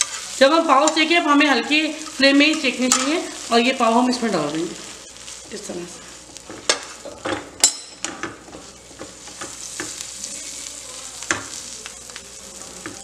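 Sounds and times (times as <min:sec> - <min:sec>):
butter sizzling on a griddle: 0:00.0 - 0:13.0.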